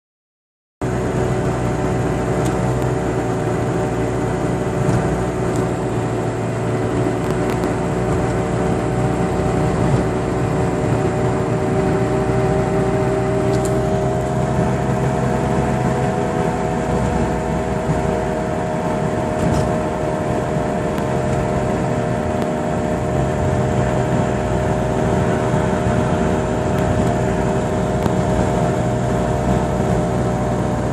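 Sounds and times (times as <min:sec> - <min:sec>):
road noise: 0:00.8 - 0:30.9
car wheel bearing hum: 0:00.9 - 0:30.9.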